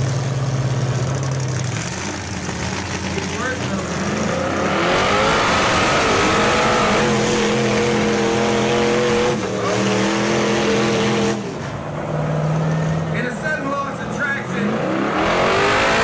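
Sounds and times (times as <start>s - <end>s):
tires spinning on concrete: 0.0s - 16.0s
truck engines revving: 0.0s - 16.0s.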